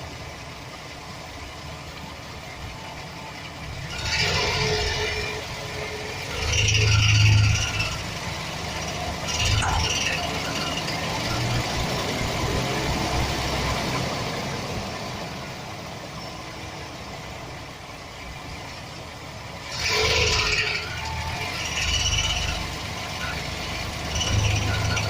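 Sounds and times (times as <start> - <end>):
engine rattle: 0.0 - 25.0
van engine idling: 0.0 - 25.0.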